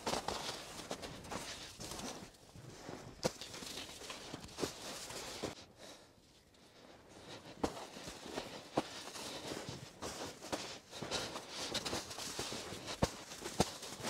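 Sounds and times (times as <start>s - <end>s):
snow crunching: 0.0s - 6.0s, 6.8s - 14.0s.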